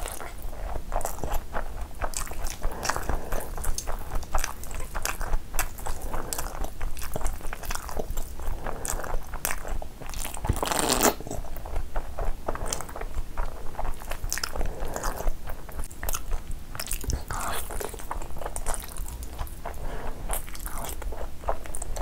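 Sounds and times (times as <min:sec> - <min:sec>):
wet chewing with mouth clicks: 0:00.0 - 0:22.0.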